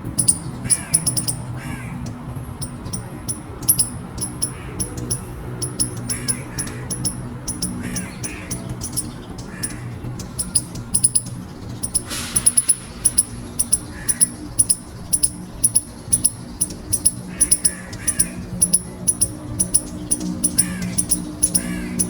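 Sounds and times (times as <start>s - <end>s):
squirrel high-pitched squeaks: 0.0s - 22.0s
squirrel lower call: 0.1s - 22.0s.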